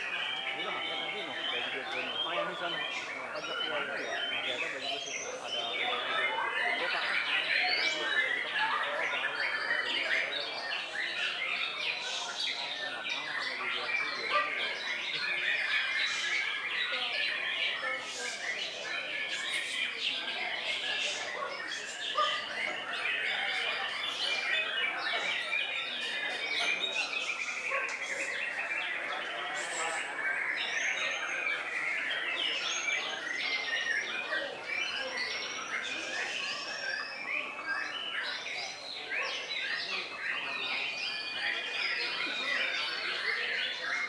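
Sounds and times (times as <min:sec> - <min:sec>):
birds singing: 0:00.0 - 0:44.0.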